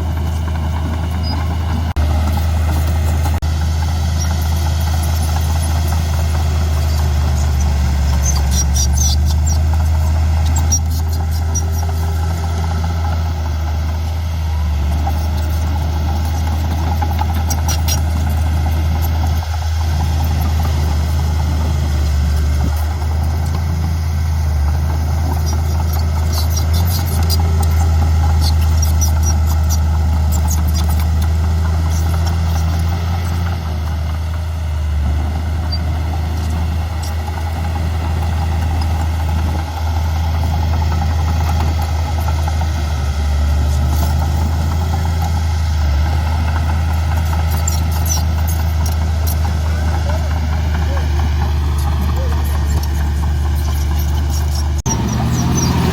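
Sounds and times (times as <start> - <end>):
diesel machinery engine hum: 0.0 - 55.9.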